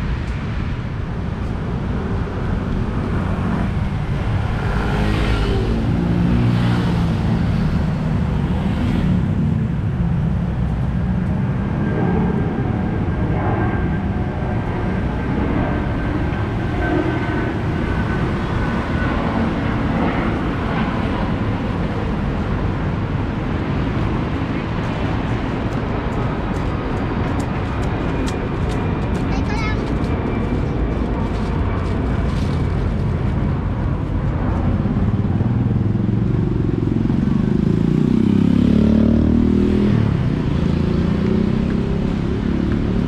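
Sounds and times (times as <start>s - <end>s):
cars passing: 0.0s - 43.0s.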